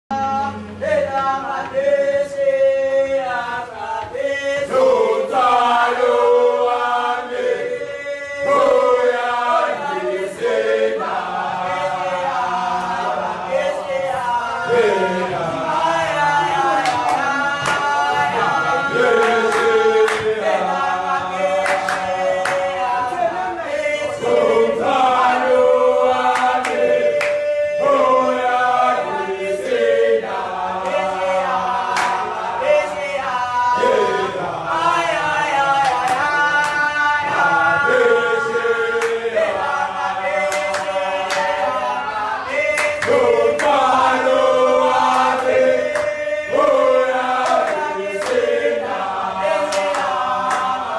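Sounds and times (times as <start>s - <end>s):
boys singing a chant-song: 0.1s - 50.9s.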